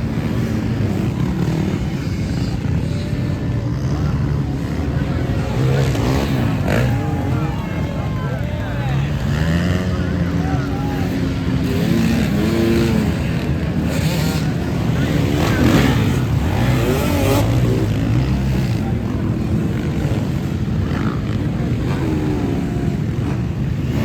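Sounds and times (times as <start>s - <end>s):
motorcycle engines revving and passing: 0.0s - 24.0s.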